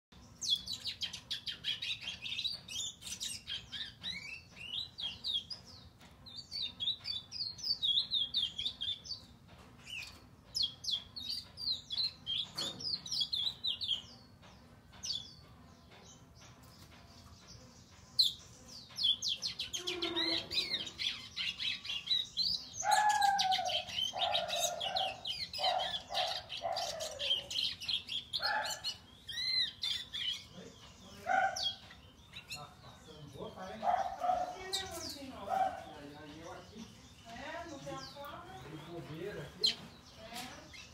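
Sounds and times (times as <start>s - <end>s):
finch chirping and twittering: 0.2s - 40.9s.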